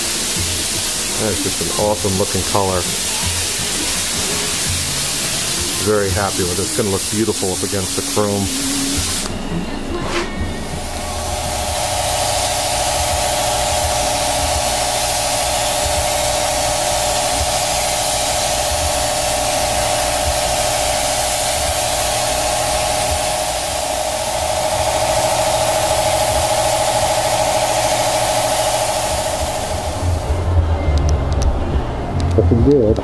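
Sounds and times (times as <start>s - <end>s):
paint spray gun hissing: 0.0s - 9.3s, 10.6s - 30.5s
droning hum: 0.0s - 33.0s.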